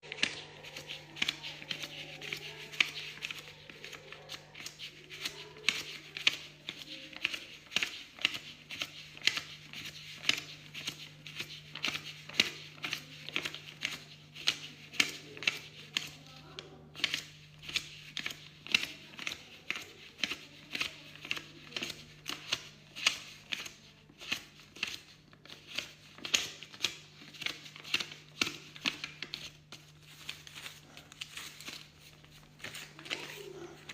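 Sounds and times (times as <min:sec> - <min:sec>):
banknotes being counted by hand: 0:00.0 - 0:33.9.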